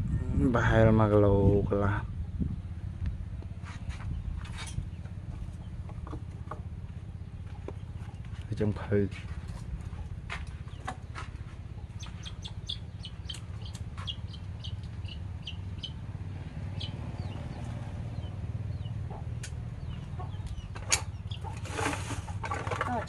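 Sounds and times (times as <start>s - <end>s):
steady low rumble: 0.0s - 22.4s
birds chirping: 1.9s - 23.0s.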